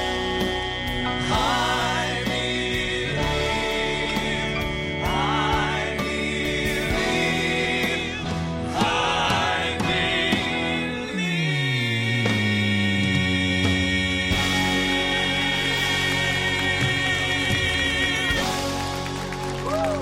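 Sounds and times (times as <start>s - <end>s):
male quartet singing in harmony: 0.0s - 19.0s.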